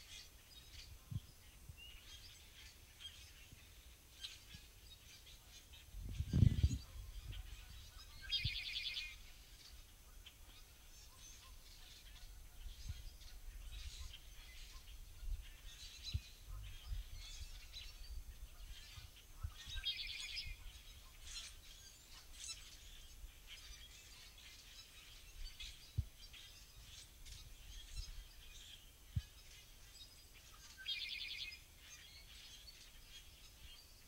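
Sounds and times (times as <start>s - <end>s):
birds chirping and calling: 0.0s - 34.0s
blackbird trilled song: 0.0s - 34.0s.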